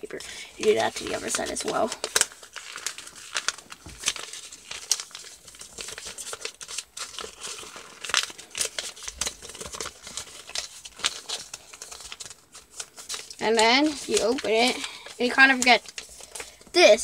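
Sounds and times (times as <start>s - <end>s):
paper being folded and creased: 0.0s - 17.0s.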